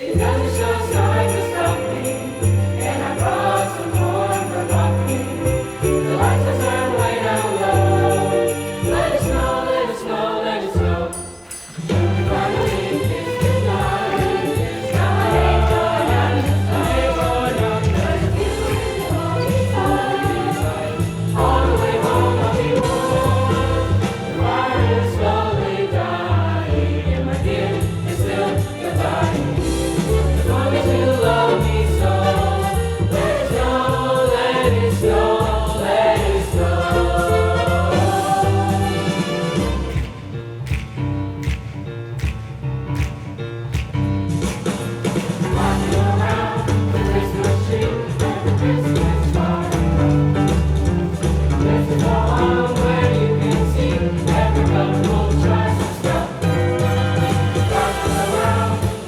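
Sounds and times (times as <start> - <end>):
choir singing: 0.0 - 40.2, 45.4 - 59.0
instrumental accompaniment: 0.0 - 59.0.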